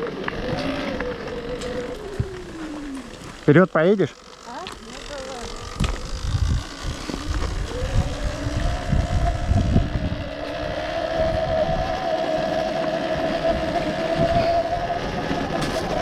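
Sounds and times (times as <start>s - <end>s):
wind rumble on microphone: 0.0s - 3.5s, 4.9s - 16.0s
electric motorcycle motor whine: 0.0s - 16.0s.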